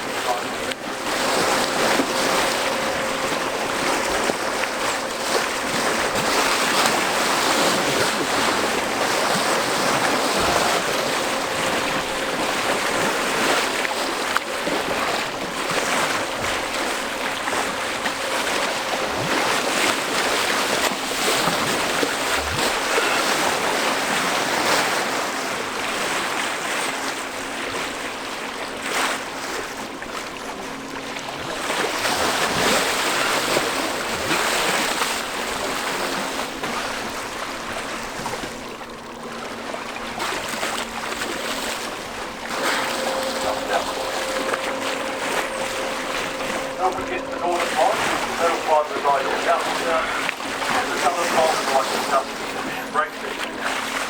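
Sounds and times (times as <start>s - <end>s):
faint boat hum: 0.0s - 54.0s
water churning along hull: 0.0s - 54.0s.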